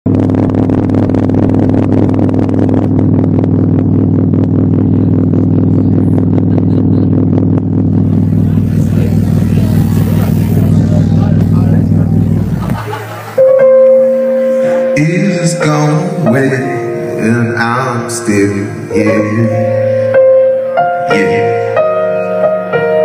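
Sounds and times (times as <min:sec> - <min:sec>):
electronic drone: 0:00.1 - 0:23.0
hissing noise: 0:00.2 - 0:18.9.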